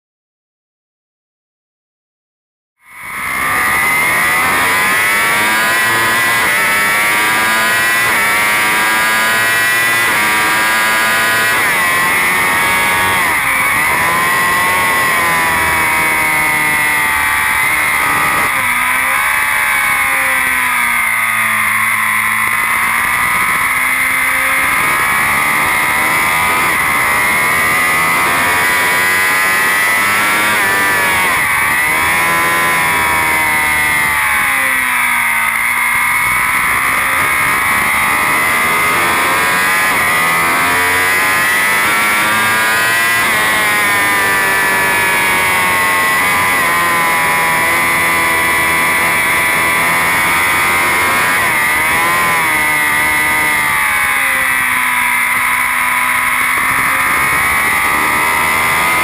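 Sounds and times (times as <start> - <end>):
motorcycle engine accelerating hard: 2.8 - 59.0.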